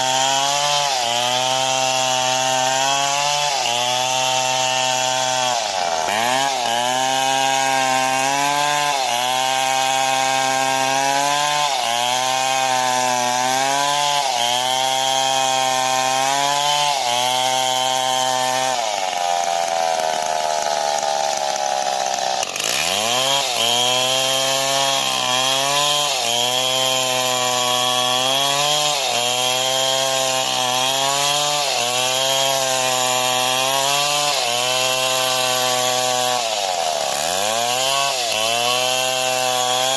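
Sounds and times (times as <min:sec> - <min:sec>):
chainsaw cutting at high revs: 0:00.0 - 0:39.9.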